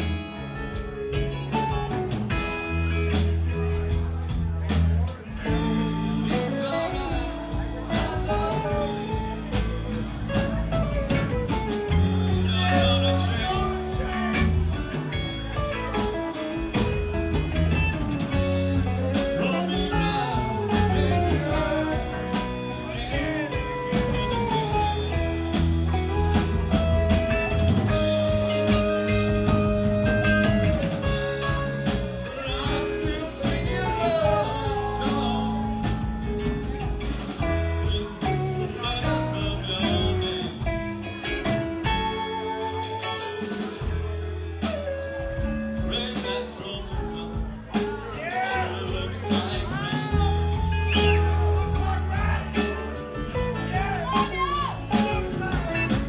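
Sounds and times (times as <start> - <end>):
drum kit: 0.0 - 56.0
electric bass: 0.0 - 56.0
electric guitars: 0.0 - 56.0
keyboard: 0.0 - 56.0.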